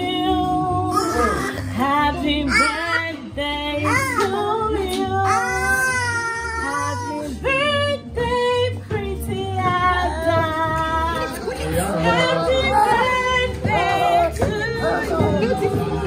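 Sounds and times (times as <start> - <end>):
song with female singer: 0.0 - 16.0.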